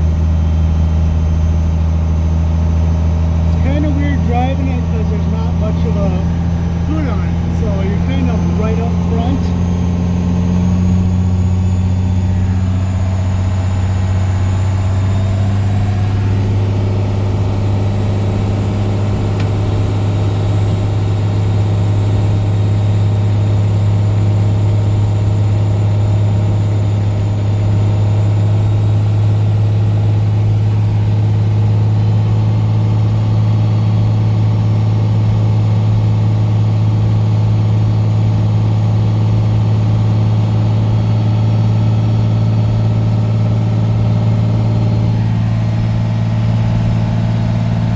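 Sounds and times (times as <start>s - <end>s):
diesel engine drone: 0.0s - 47.9s.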